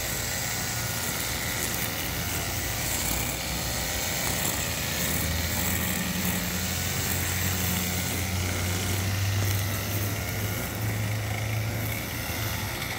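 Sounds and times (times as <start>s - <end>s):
string trimmer engine drone: 0.0s - 12.9s.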